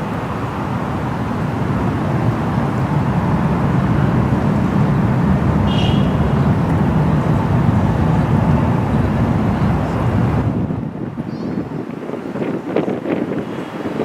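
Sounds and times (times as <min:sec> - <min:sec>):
jet engines deep rumble: 0:00.0 - 0:14.0.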